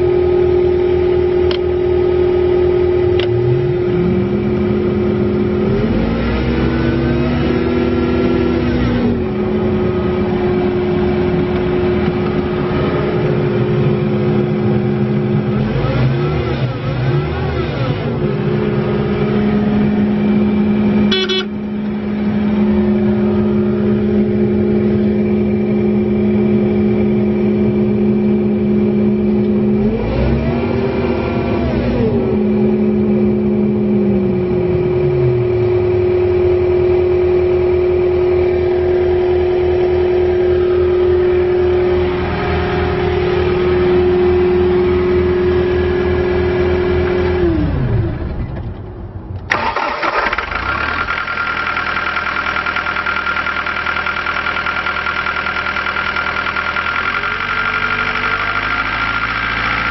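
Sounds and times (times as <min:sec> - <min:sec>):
diesel engine revving: 0:00.0 - 0:59.9.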